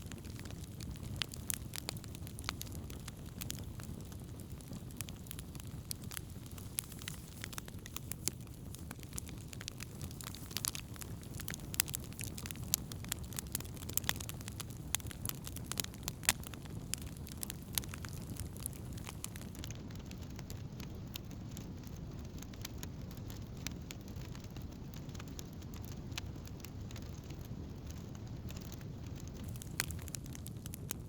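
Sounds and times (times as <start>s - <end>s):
campfire crackling and popping: 0.0s - 31.0s
low fire rumble: 0.0s - 31.0s.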